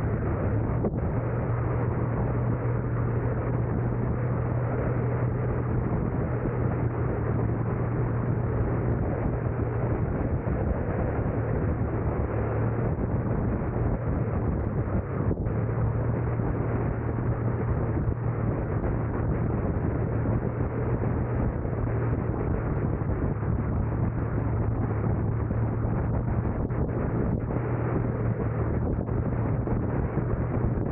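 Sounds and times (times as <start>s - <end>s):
car road and engine noise: 0.0s - 30.9s
constant low hum: 0.0s - 30.9s.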